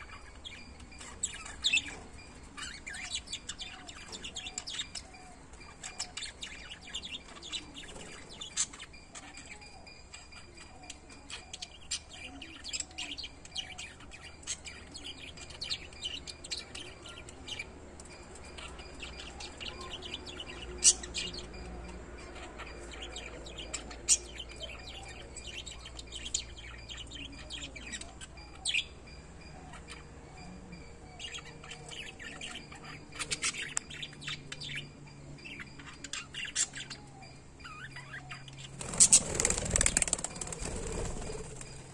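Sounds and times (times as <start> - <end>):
lovebirds chirping: 0.0 - 41.9.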